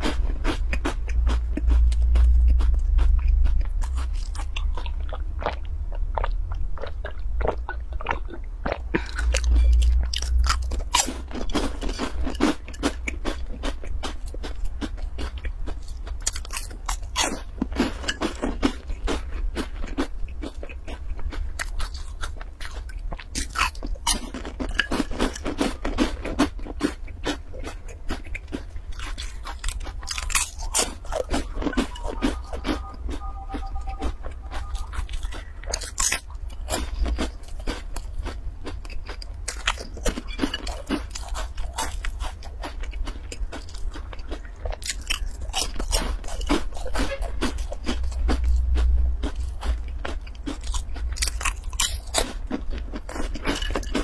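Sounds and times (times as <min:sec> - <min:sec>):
crunching and chewing: 0:00.0 - 0:54.0
low steady hum: 0:00.0 - 0:54.0.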